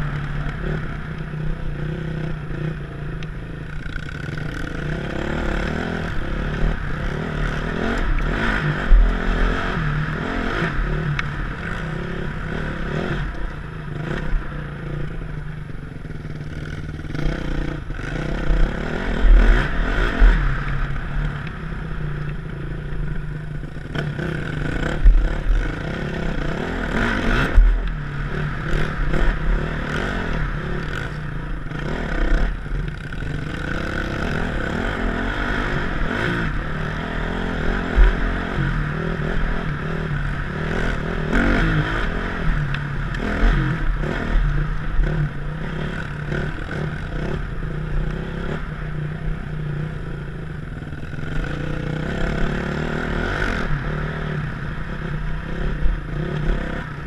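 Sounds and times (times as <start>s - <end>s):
dirt bike engine revving: 0.0s - 15.3s, 16.0s - 22.5s, 23.4s - 57.0s.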